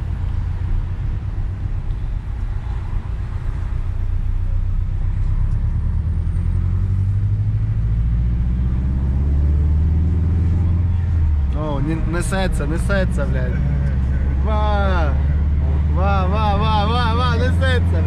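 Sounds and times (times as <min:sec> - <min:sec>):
car engine drone: 0:00.0 - 0:18.0.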